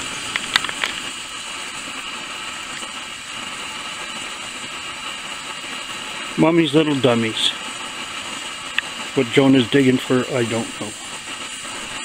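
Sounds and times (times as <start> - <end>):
camp stove burner hissing: 0.0 - 12.0.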